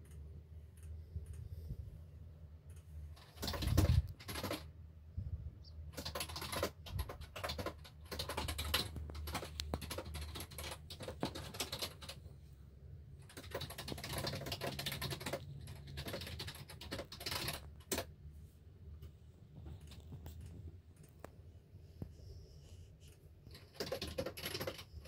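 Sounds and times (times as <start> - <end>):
rapid irregular clicking: 0.0 - 1.5, 2.6 - 4.8, 5.9 - 12.3, 13.1 - 18.3, 18.9 - 22.1, 23.0 - 25.0
low steady hum: 0.0 - 25.0.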